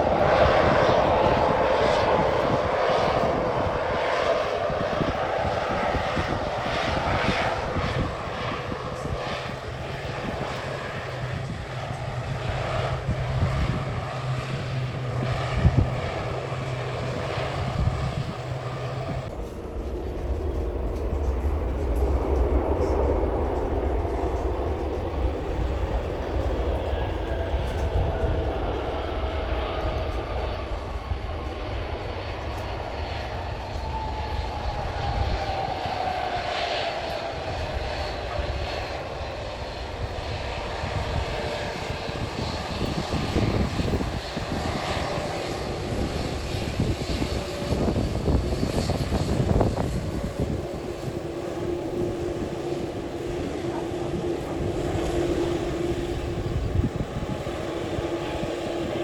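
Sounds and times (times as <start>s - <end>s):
airliner engines passing by: 0.0s - 59.0s.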